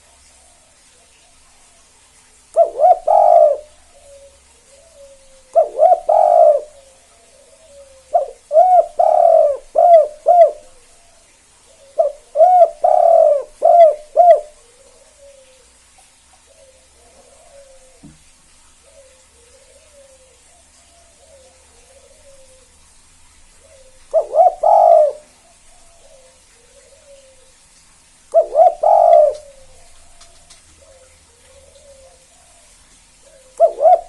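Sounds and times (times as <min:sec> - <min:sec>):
dove cooing: 0:02.5 - 0:15.8, 0:16.4 - 0:18.2, 0:18.8 - 0:22.9, 0:23.6 - 0:27.7, 0:28.3 - 0:34.0.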